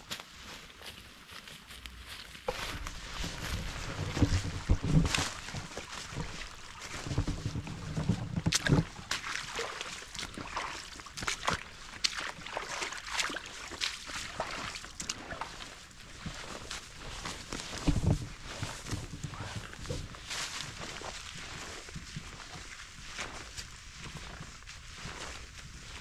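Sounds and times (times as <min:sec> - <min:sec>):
footsteps crunching dry leaves: 0:00.0 - 0:26.0.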